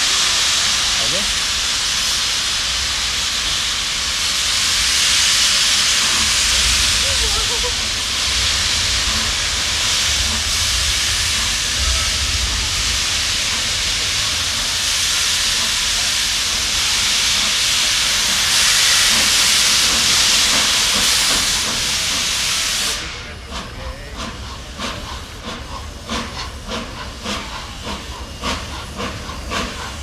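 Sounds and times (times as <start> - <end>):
steam locomotive hissing: 0.0 - 30.0.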